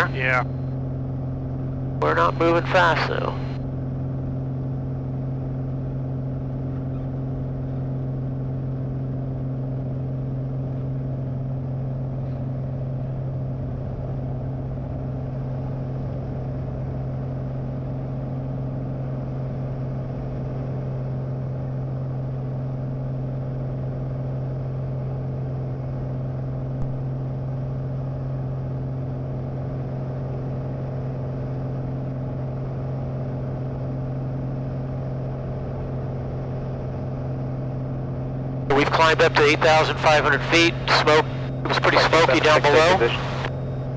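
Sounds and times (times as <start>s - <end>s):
light aircraft engine drone: 0.0s - 43.9s.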